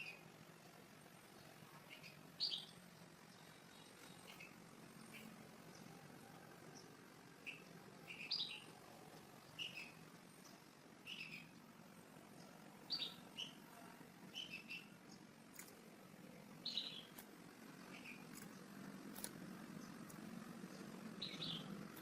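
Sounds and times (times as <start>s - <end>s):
small bird chirping: 0.0s - 0.4s, 1.2s - 8.8s, 9.4s - 11.6s, 12.2s - 22.0s.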